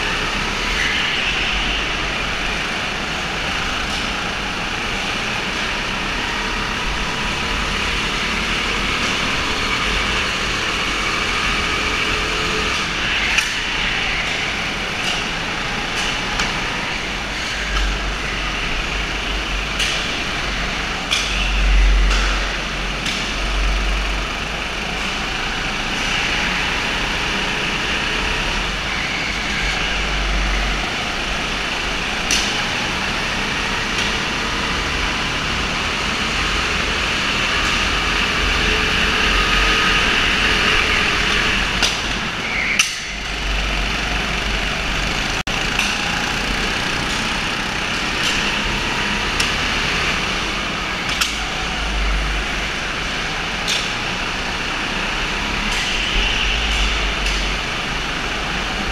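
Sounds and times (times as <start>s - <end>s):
go-kart engines running: 0.0s - 58.9s.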